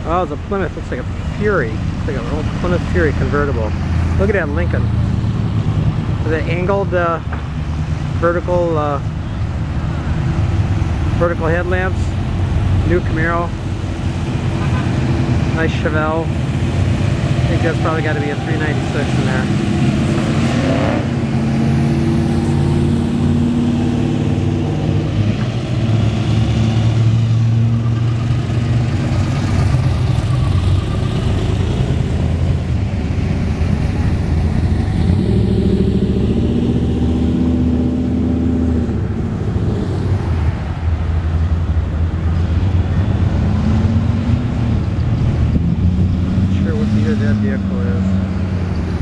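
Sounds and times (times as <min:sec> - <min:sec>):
cars driving past: 0:00.0 - 0:49.0.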